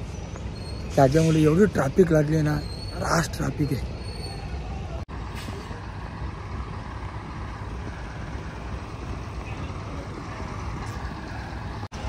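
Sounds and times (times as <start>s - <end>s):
diesel truck engines rumbling: 0.0s - 12.0s.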